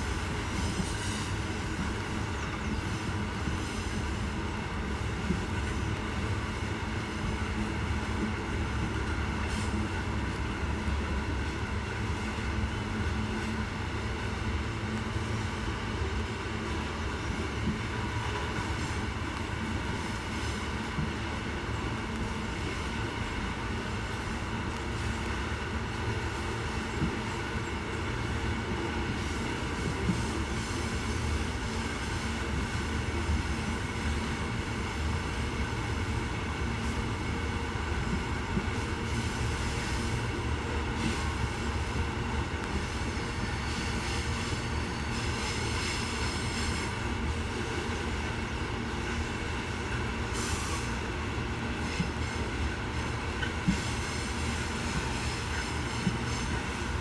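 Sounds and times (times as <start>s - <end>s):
train wagons rumbling on rails: 0.0s - 57.0s.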